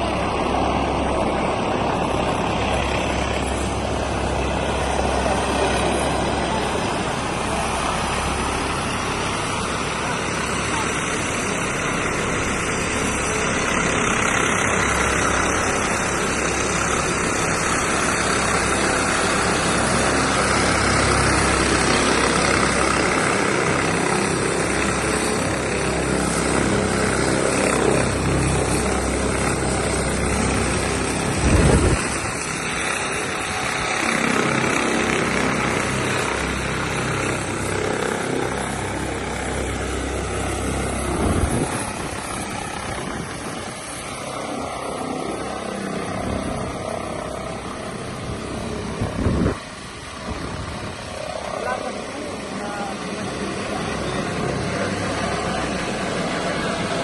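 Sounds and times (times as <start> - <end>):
helicopter rotor and turbine engines: 0.0 - 57.0.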